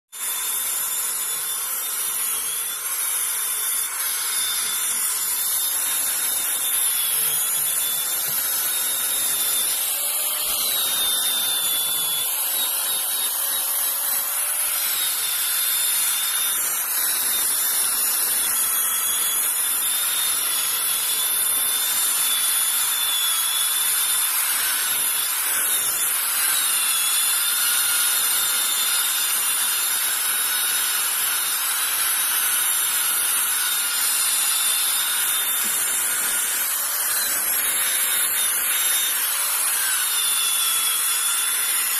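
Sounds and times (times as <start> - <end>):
electric drill motor whine: 0.2 - 41.9.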